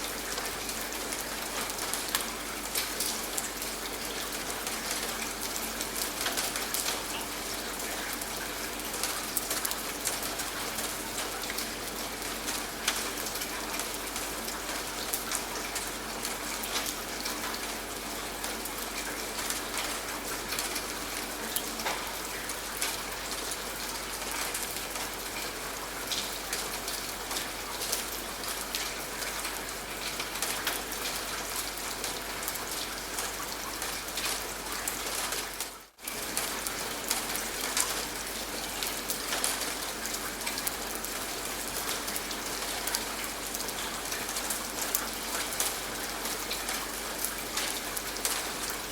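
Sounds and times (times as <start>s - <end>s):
raindrops ticking on a surface: 0.0s - 48.9s.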